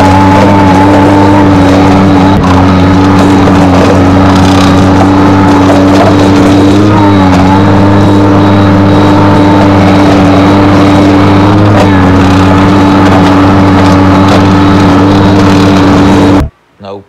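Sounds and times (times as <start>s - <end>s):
skid steer engine running: 0.0s - 16.5s.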